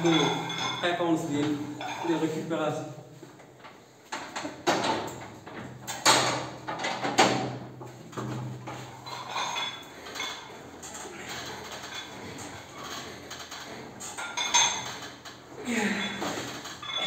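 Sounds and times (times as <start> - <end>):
metal clanks and rattles: 0.0 - 2.4, 3.6 - 17.0.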